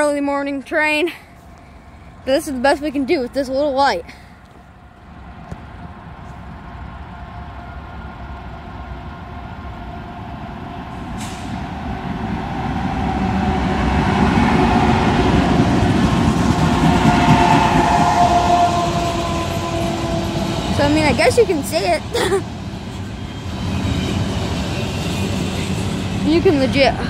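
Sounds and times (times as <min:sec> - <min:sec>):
diesel locomotive engine rumble: 0:00.0 - 0:27.0
train wheels on rails: 0:02.2 - 0:27.0.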